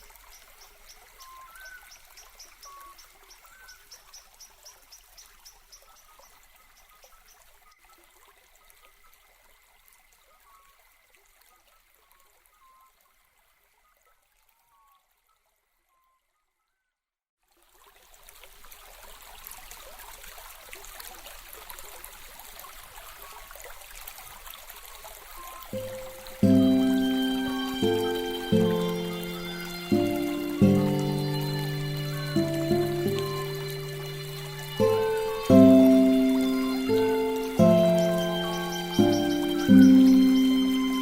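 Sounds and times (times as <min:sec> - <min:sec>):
water trickling: 0:00.0 - 0:15.7, 0:17.4 - 0:41.0.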